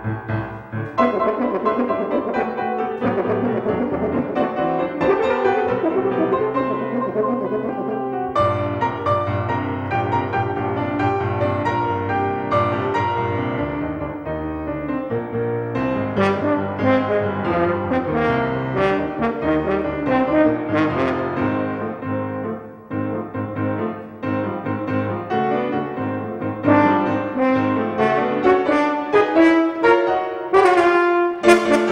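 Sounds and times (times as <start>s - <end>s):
piano: 0.0s - 31.9s
brass instruments playing: 0.5s - 14.1s, 15.9s - 24.0s, 24.7s - 31.9s.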